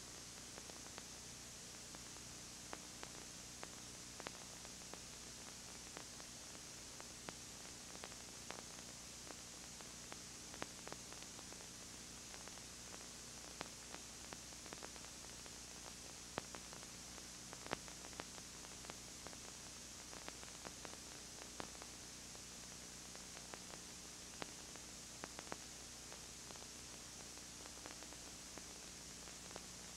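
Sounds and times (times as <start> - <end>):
low electrical hum: 0.0 - 29.9
tape hiss: 0.0 - 29.9
faint clicks and crackles: 0.1 - 29.9.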